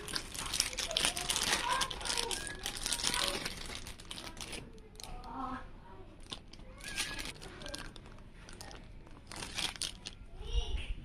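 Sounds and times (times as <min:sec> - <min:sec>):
plastic bags crinkling: 0:00.0 - 0:05.5, 0:06.1 - 0:10.2.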